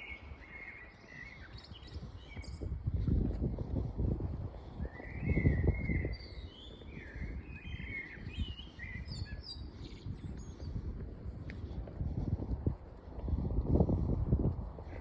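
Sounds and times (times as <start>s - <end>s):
songbirds chirping: 0.0s - 12.2s
low rumbling on microphone: 1.9s - 15.0s.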